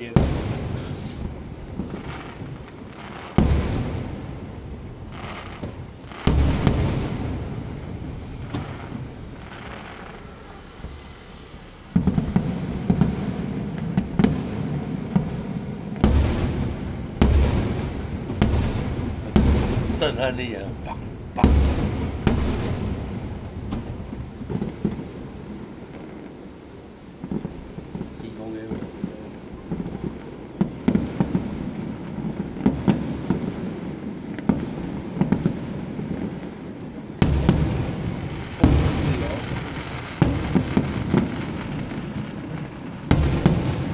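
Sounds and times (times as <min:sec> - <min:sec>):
firecrackers crackling: 0:00.0 - 0:43.9
firework booms: 0:00.0 - 0:43.9.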